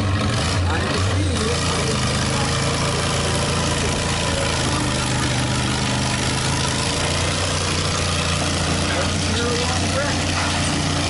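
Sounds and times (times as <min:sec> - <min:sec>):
lawn tractor engine droning: 0:00.0 - 0:11.0.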